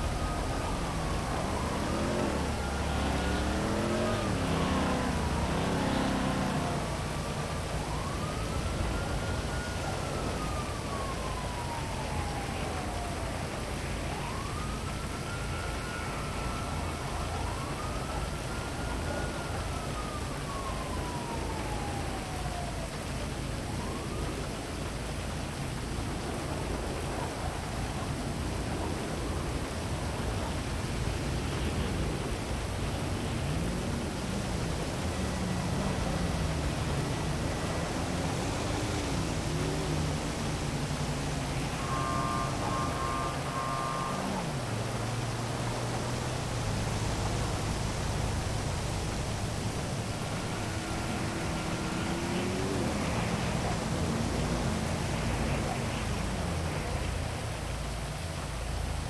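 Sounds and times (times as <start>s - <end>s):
siren wailing: 0.0s - 24.7s, 26.6s - 57.6s
heavy rain: 0.0s - 59.0s
vehicle engine drone: 0.0s - 59.0s.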